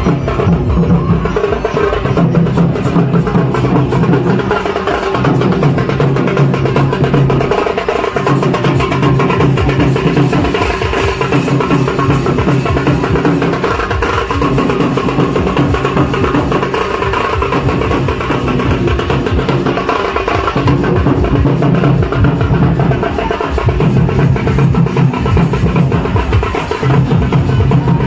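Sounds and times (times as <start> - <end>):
fast drumming: 0.0 - 28.0.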